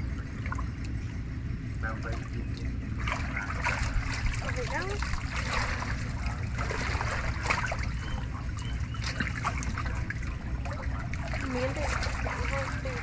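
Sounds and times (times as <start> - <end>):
steady low rumble: 0.0 - 13.0
water trickling and splashing: 0.0 - 13.0.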